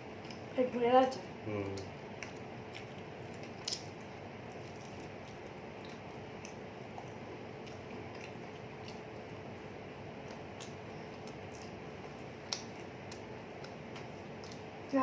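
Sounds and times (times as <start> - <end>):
chewing hard pizza: 0.0 - 0.6, 1.4 - 15.0
faint hum: 0.0 - 15.0.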